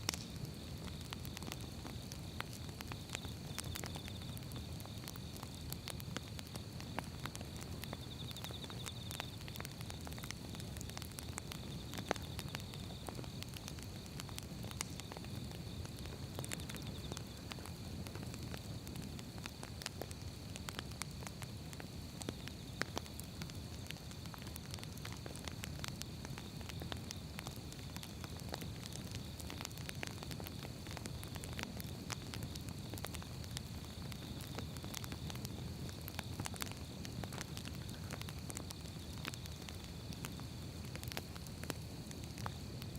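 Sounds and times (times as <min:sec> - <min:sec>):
firewood burning: 0:00.0 - 0:42.9
logs popping and crackling: 0:00.0 - 0:42.9.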